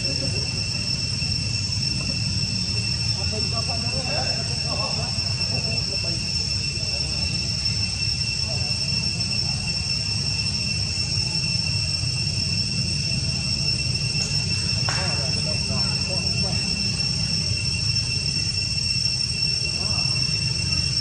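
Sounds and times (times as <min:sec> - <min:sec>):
insect chorus high whine: 0:00.0 - 0:21.0.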